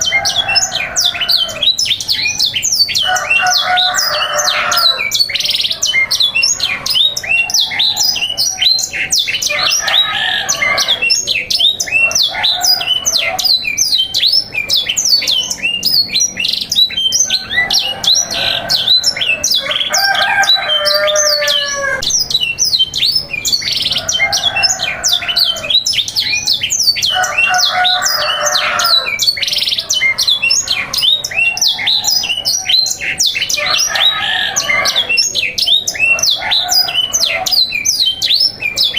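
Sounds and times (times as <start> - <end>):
canaries singing: 0.0 - 38.9
harsh bird calls: 0.0 - 38.9.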